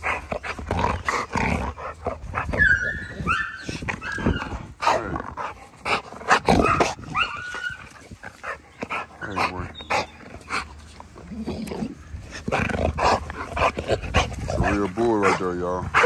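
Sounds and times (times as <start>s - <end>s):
dogs yipping and whining: 1.0s - 5.0s, 6.2s - 16.0s.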